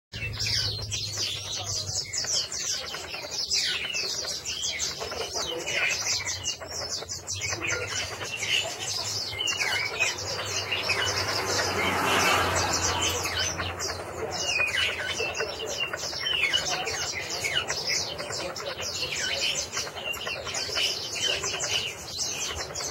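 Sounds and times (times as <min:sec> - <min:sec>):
songbird warbling: 0:00.2 - 0:22.9.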